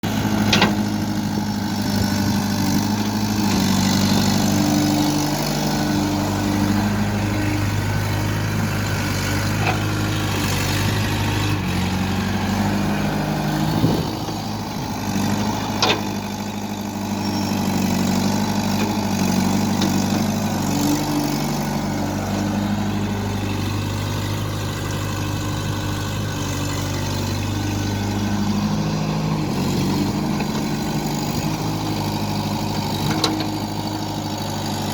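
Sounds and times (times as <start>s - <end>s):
diesel machinery engine running: 0.0s - 34.9s.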